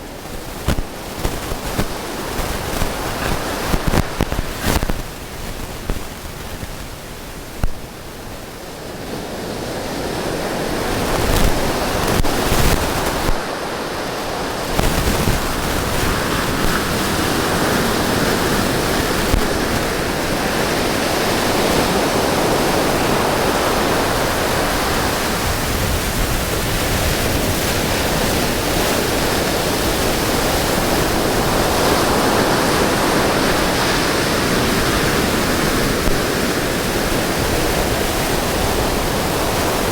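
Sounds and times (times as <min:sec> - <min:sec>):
ocean surf breaking: 0:00.0 - 0:39.9
wind bumps on microphone: 0:00.0 - 0:39.9.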